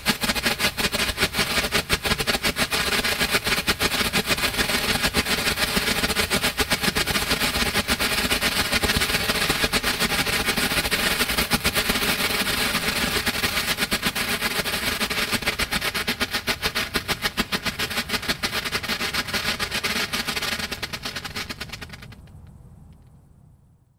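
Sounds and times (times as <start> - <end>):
firework strobes popping: 0.0 - 22.4.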